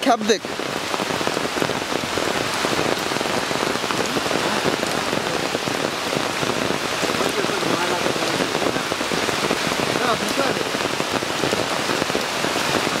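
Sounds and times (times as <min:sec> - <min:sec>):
rain on water and mud: 0:00.0 - 0:13.0.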